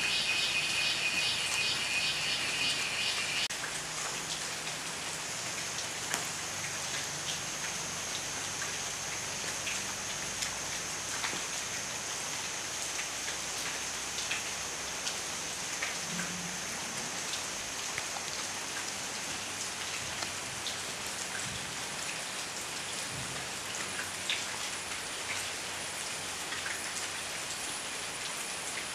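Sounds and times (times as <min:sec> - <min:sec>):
steady rain falling: 0:00.0 - 0:28.9
raindrops ticking close by: 0:00.1 - 0:28.9.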